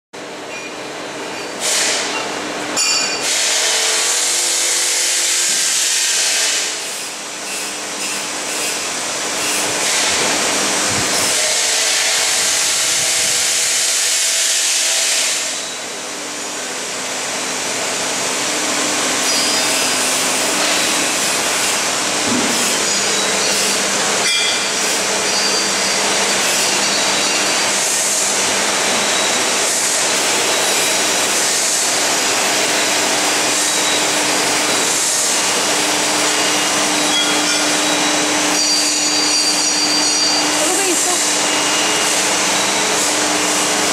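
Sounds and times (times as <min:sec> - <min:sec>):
heat press mechanical hiss: 0:01.6 - 0:02.3, 0:03.2 - 0:15.6, 0:19.1 - 0:43.9.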